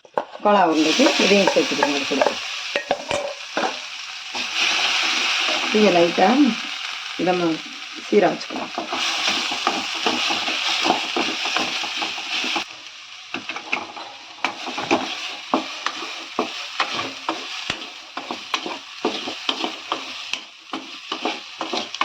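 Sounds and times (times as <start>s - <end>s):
masala sizzling in oil: 0.0s - 22.0s
spatula scraping a pan: 0.1s - 5.8s, 8.5s - 12.7s, 13.3s - 22.0s.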